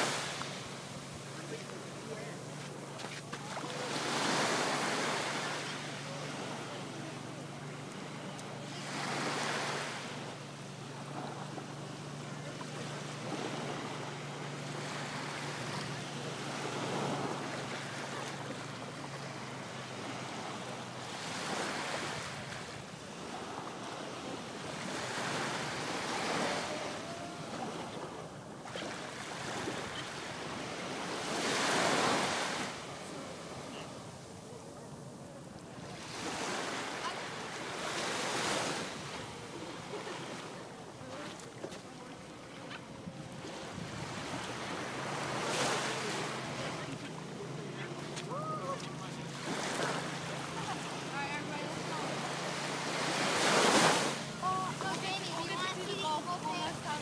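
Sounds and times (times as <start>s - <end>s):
waves washing on sandy beach: 0.0s - 57.0s.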